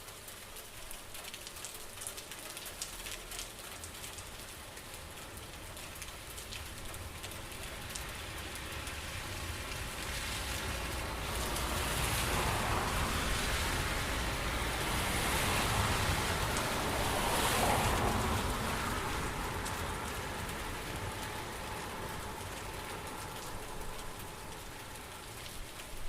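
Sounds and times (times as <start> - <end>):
raindrops ticking: 0.0 - 26.0
steady rain falling: 0.0 - 26.0.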